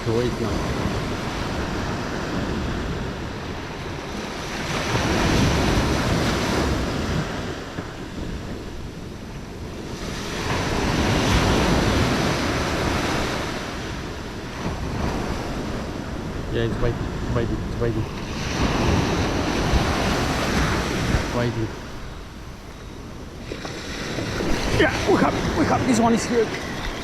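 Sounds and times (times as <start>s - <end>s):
waves breaking: 0.0s - 27.0s
wind on microphone: 0.0s - 27.0s.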